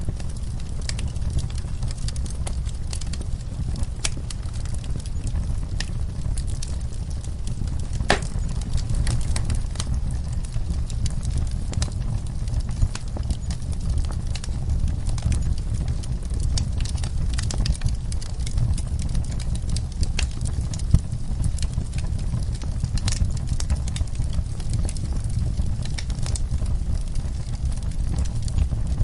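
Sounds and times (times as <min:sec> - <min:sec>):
fire low rumble: 0:00.0 - 0:29.0
wood fire crackling and popping: 0:00.0 - 0:29.0.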